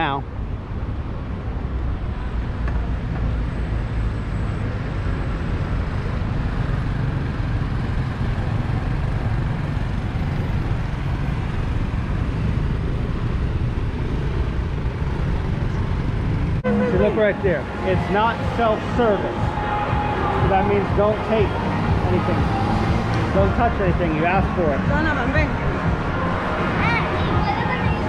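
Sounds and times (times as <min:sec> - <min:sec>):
cars and scooters passing: 0:00.0 - 0:28.0
continuous low traffic rumble: 0:00.0 - 0:28.0.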